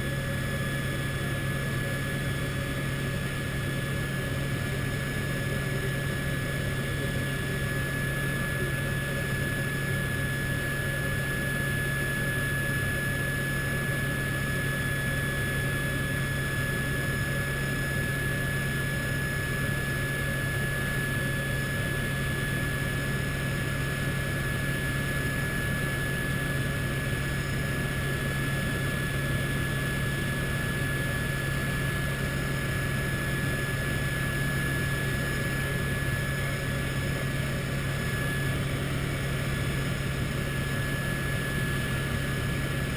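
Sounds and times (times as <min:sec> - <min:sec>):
helicopter rotor and engine noise: 0:00.0 - 0:42.9.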